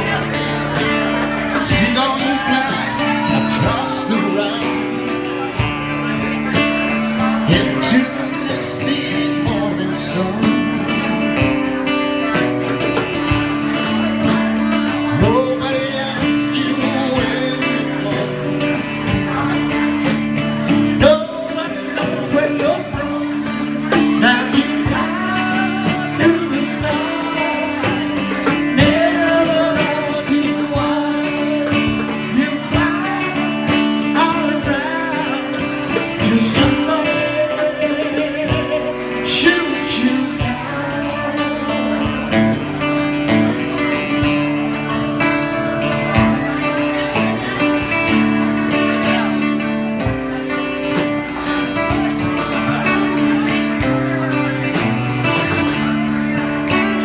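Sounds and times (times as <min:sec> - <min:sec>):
person singing: 0:00.0 - 0:57.0
strummed guitar chords: 0:00.0 - 0:57.0.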